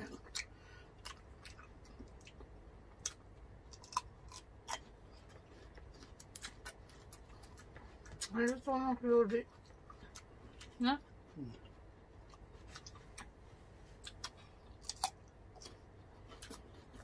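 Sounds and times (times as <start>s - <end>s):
crunchy eating: 0.0s - 17.0s.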